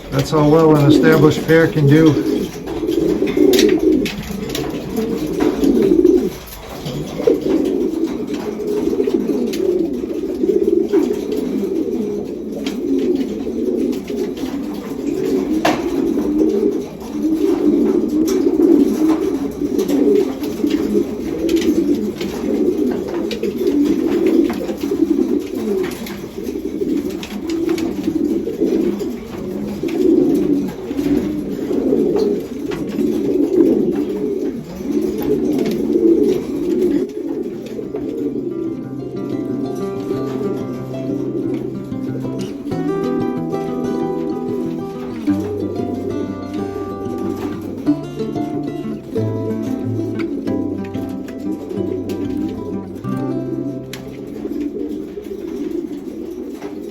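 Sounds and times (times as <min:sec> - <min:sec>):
pigeons cooing: 0:00.0 - 0:56.9.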